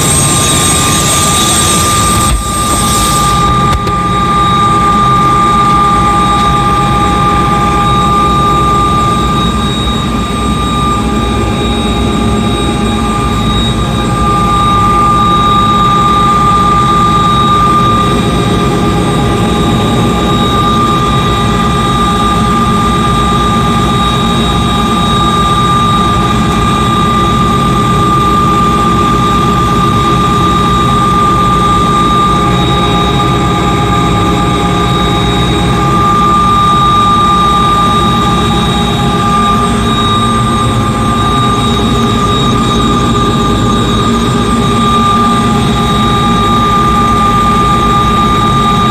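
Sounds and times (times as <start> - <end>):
helicopter rotor noise: 0.0 - 48.9
high turbine whine: 0.0 - 48.9.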